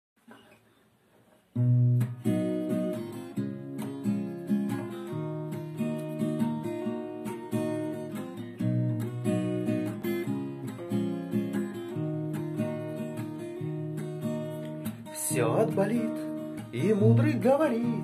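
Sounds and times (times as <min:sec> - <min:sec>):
acoustic guitar strumming and picking: 0:01.5 - 0:18.0.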